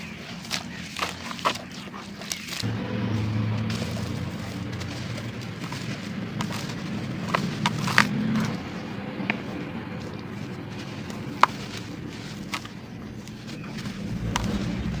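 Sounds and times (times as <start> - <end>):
dry clumps being crushed: 0.0 - 15.0.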